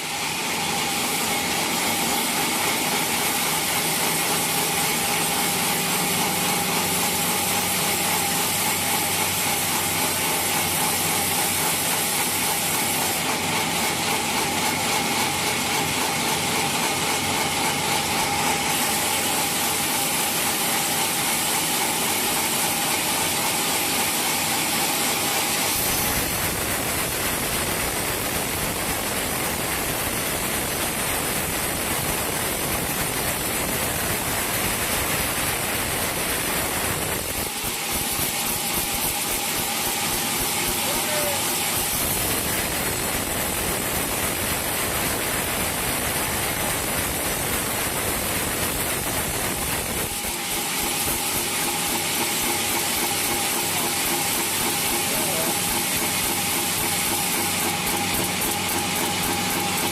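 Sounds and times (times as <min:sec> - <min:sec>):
saw cutting through log: 0:00.0 - 0:59.9.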